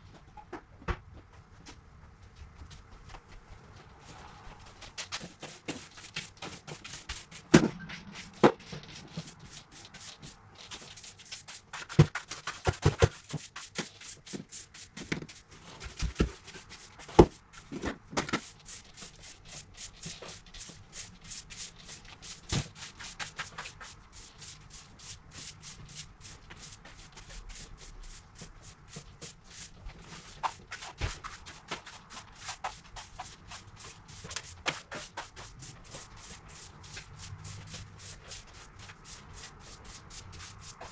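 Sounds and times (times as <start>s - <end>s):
rubbing and rustling: 2.2s - 40.9s.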